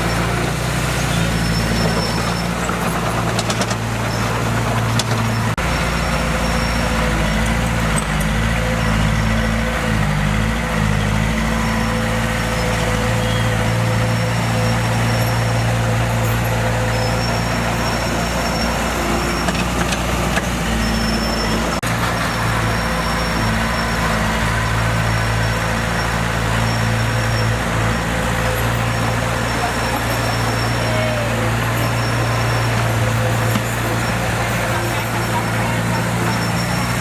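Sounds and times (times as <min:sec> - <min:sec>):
diesel engine of heavy machinery: 0:00.0 - 0:37.0.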